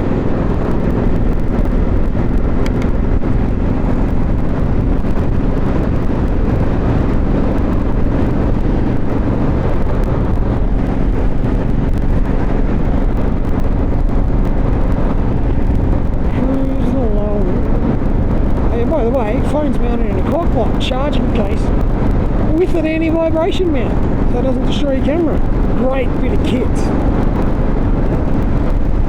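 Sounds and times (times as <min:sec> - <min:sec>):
motorcycle engine cruising: 0:00.0 - 0:29.0
wind rush on microphone: 0:00.0 - 0:29.0.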